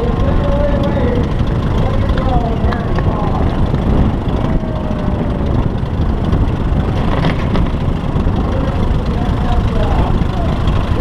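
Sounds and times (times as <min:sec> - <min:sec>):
aircraft engine noise: 0:00.0 - 0:11.0
low wind rumble: 0:00.0 - 0:11.0.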